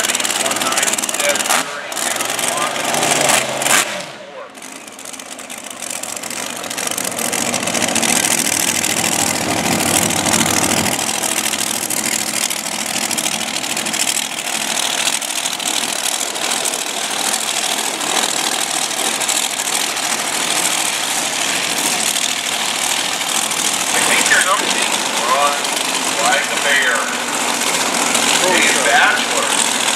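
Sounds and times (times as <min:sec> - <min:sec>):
race car engines running: 0:00.0 - 0:29.9.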